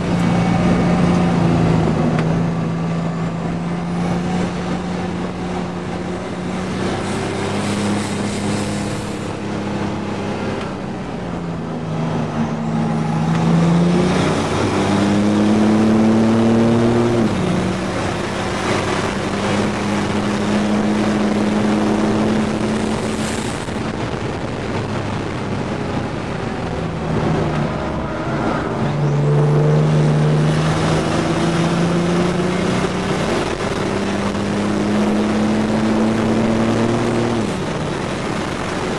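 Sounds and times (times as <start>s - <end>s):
car engine accelerating hard: 0.0s - 38.9s
road and wind noise: 0.0s - 38.9s.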